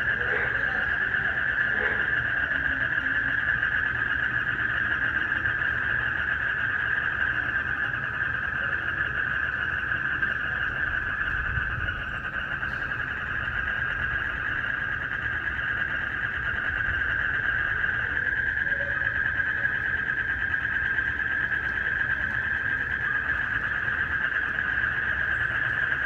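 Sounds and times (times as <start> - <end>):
frogs and crickets trilling: 0.0 - 26.0.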